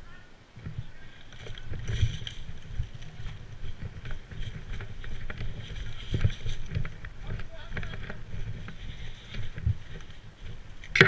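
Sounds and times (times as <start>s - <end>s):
wind rumble on microphone: 0.0s - 11.0s
light clicks and rustles: 0.6s - 11.0s.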